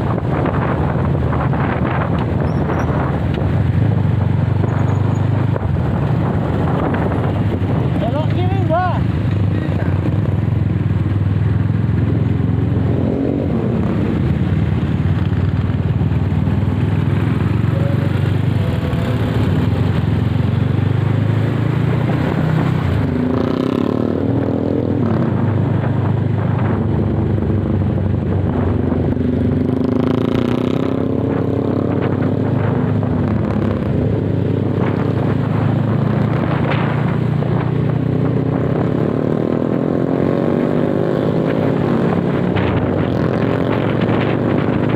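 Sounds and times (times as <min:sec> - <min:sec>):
motorcycle engine running: 0:00.0 - 0:40.1
road and wind noise: 0:00.0 - 0:44.9.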